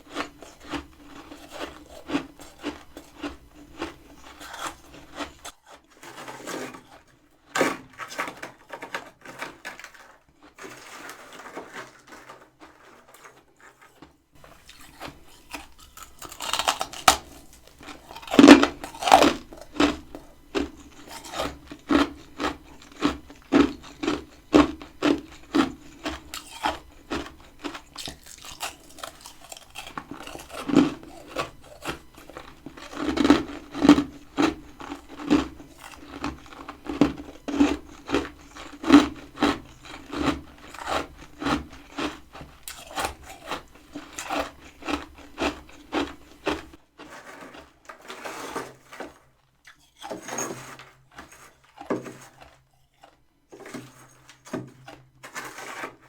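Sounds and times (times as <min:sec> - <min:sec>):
crisp chewing crunches: 0:00.0 - 0:07.1, 0:13.9 - 0:48.9, 0:49.6 - 0:55.0.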